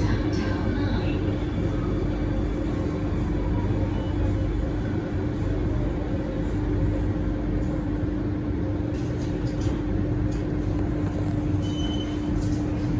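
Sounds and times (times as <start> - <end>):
metro train rumble and hum: 0.0 - 12.9.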